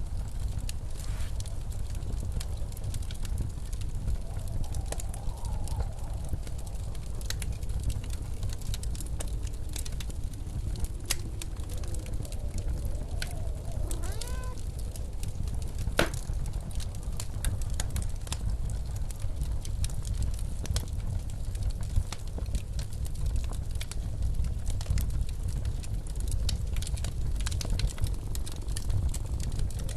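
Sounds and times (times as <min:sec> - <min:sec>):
blizzard wind rumbling: 0:00.0 - 0:29.9
fireplace crackling and popping: 0:00.0 - 0:29.9.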